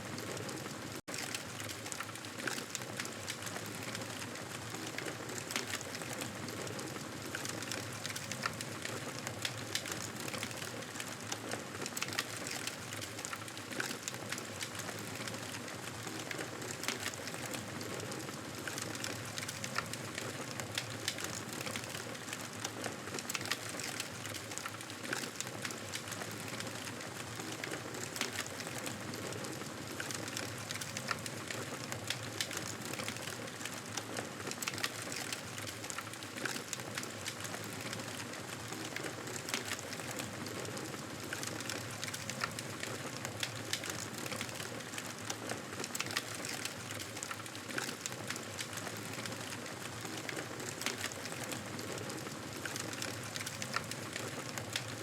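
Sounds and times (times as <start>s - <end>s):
wood fire crackling and popping: 0.1s - 55.0s.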